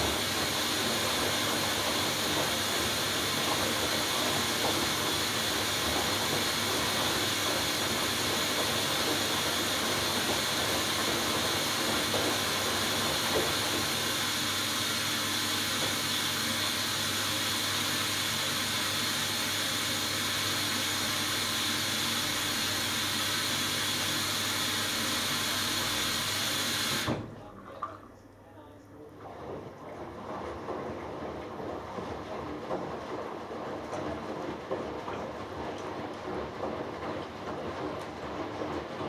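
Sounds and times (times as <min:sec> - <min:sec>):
water hissing in washing machine: 0:00.0 - 0:27.8, 0:29.0 - 0:39.0.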